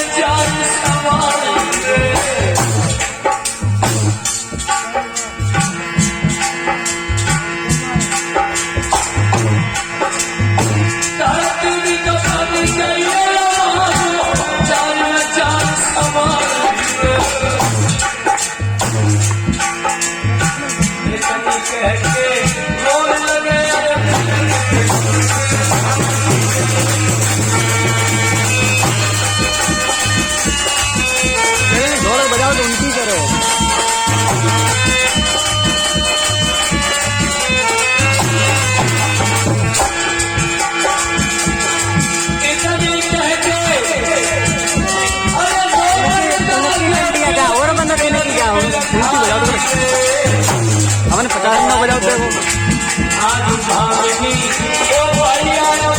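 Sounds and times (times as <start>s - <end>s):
held steady melody: 0.0s - 55.9s
jingling hand percussion: 0.0s - 55.9s.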